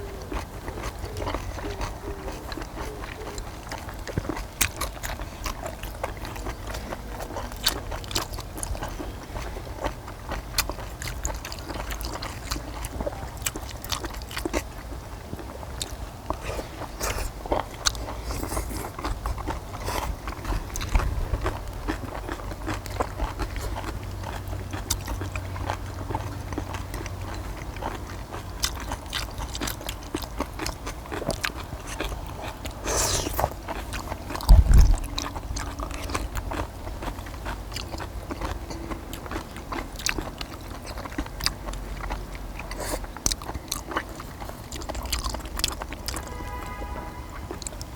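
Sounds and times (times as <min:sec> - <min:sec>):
people chewing and biting: 0:00.0 - 0:47.9.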